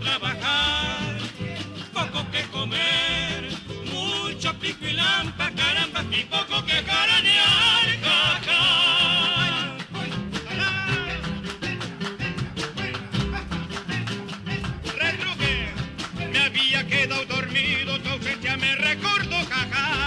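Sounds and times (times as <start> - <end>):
acoustic guitar strumming: 0.0 - 20.0
man singing with vibrato: 0.0 - 20.0.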